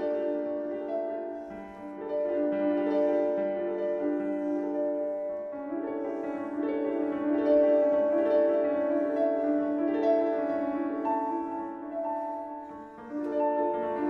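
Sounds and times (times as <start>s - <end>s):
instrumental music with held notes: 0.0s - 14.0s.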